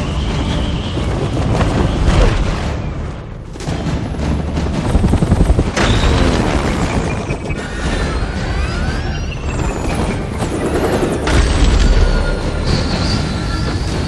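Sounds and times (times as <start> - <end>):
deep rumble: 0.0 - 14.0
heavy booms: 0.0 - 14.0
rapid gunfire: 0.0 - 14.0
quick strikes: 1.6 - 14.0.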